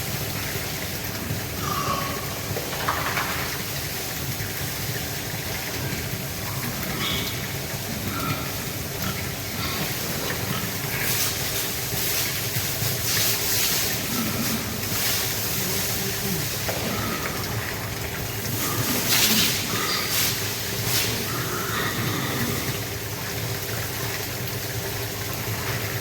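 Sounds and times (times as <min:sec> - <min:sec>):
water spraying from a hose: 0:00.0 - 0:26.0.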